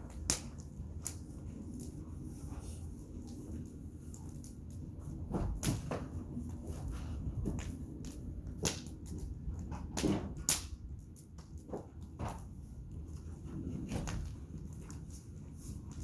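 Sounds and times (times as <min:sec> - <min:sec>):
fire popping and snapping: 0:00.0 - 0:16.0
wood fire crackling: 0:00.0 - 0:16.0.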